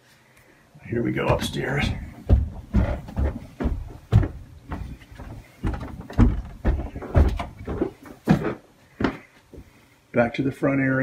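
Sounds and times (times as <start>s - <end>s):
footsteps climbing stairs: 0.8s - 9.7s.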